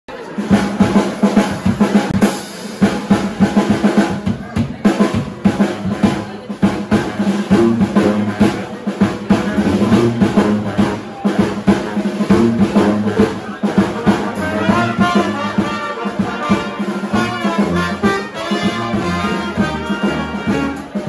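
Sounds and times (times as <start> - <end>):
drum kit playing fast groove: 0.1 - 21.0.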